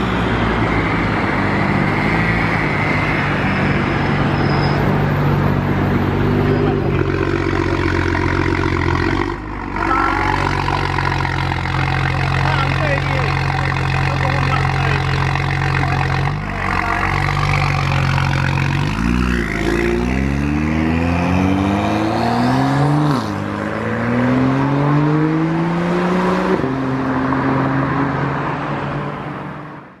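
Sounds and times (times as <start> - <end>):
car engine accelerating: 0.0 - 29.9.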